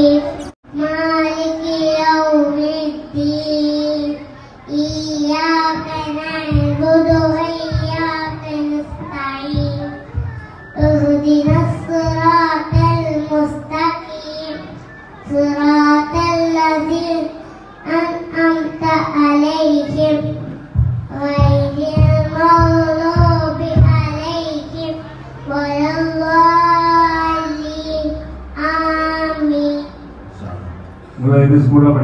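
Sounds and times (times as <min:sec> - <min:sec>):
boy singing into a microphone: 0:00.0 - 0:30.1.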